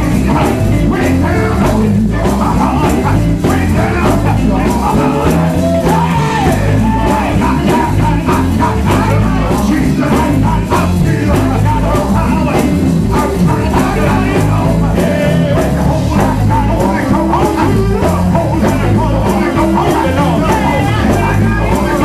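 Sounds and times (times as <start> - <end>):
gospel band playing: 0.0 - 22.0
man singing and shouting: 0.0 - 22.0.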